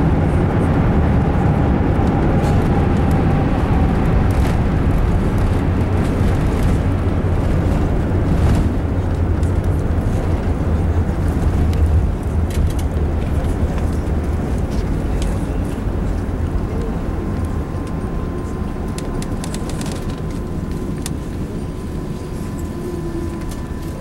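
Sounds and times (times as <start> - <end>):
low rumble in aircraft cabin: 0.0 - 24.0.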